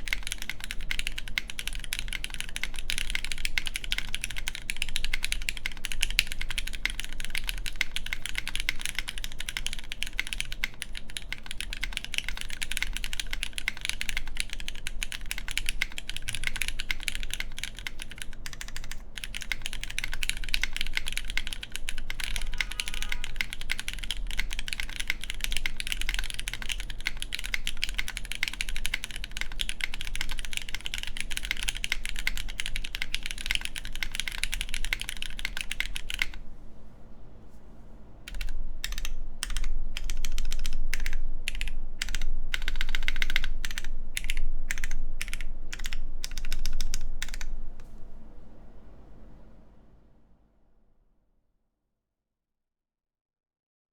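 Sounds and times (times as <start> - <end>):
fast mechanical keyboard typing: 0.0 - 36.4, 38.3 - 47.6.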